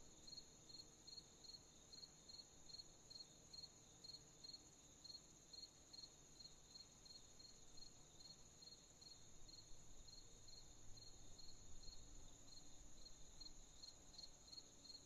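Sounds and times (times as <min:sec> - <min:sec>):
crickets chirping: 0:00.1 - 0:15.0.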